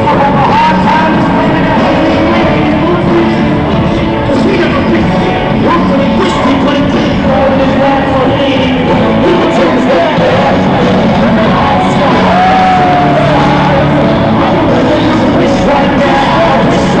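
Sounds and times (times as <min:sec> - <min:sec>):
live band music through pa: 0:00.0 - 0:17.0
person singing: 0:00.0 - 0:17.0.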